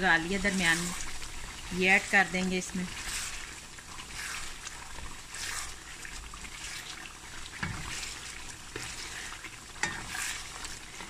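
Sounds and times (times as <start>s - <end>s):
chicken sizzling and bubbling: 0.0s - 11.0s
wooden spatula stirring: 0.0s - 11.0s.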